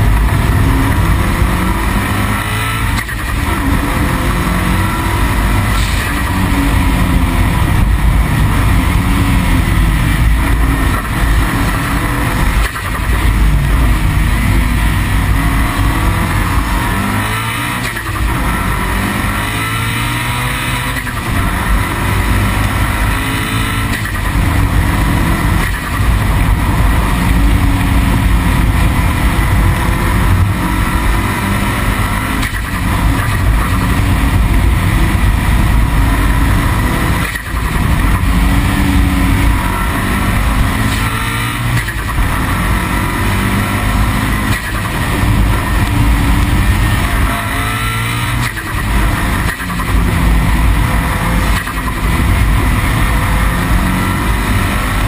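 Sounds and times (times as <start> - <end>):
car engine revving: 0.0 - 55.0
road rumble: 0.0 - 55.0.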